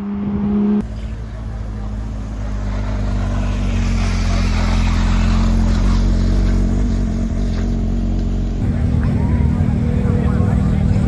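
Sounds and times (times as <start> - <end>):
road noise hiss: 0.8 - 11.0
sports car engine running: 0.8 - 11.0.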